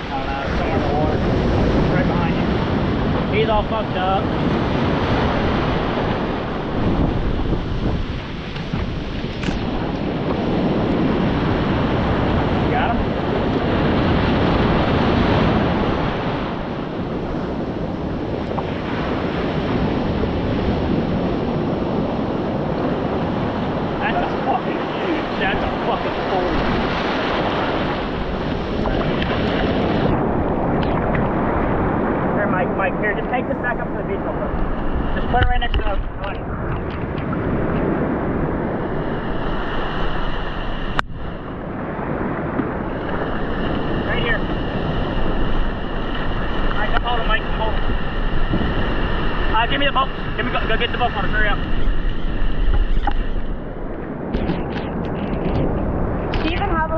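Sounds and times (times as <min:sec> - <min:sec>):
ocean surf washing over sand: 0:00.0 - 0:56.9
wind buffeting microphone: 0:00.0 - 0:56.9.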